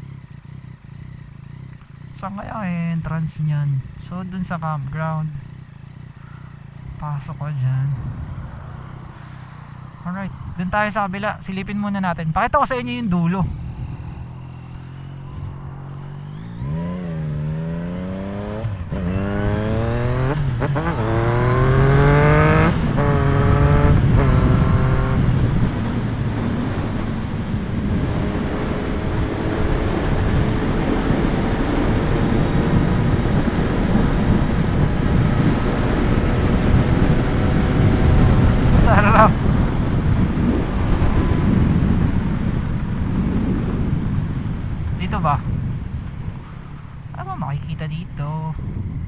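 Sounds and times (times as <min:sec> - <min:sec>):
motorcycle engine accelerating: 0:00.0 - 0:49.0
wind noise on microphone: 0:07.8 - 0:11.7, 0:12.8 - 0:49.0.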